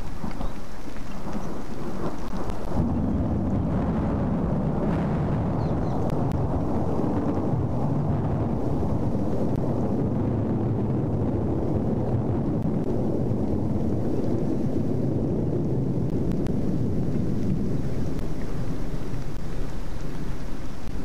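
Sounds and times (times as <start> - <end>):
heavy rain: 0.0 - 21.0
wind noise: 0.0 - 21.0.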